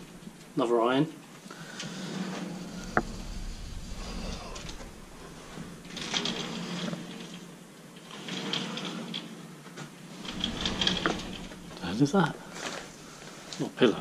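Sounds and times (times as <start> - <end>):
closet door rustling and clicking: 1.7 - 13.6.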